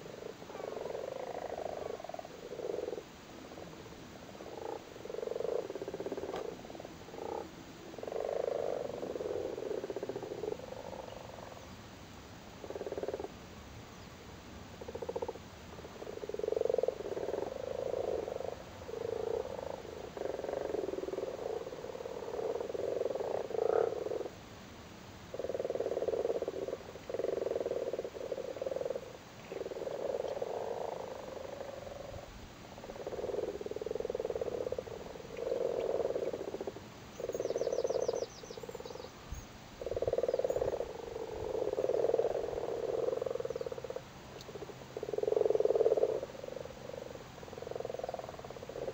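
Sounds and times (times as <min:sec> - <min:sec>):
frogs croaking in chorus: 0:00.0 - 0:11.9, 0:12.5 - 0:24.4, 0:25.3 - 0:48.9.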